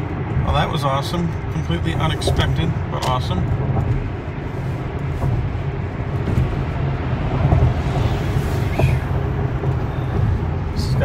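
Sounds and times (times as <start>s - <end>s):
tyre and wind noise in car: 0.0s - 11.0s.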